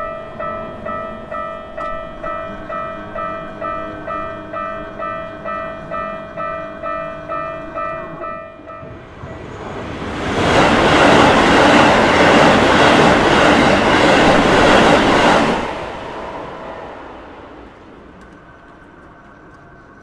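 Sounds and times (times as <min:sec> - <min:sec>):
electric train passing at speed: 0:00.0 - 0:20.0.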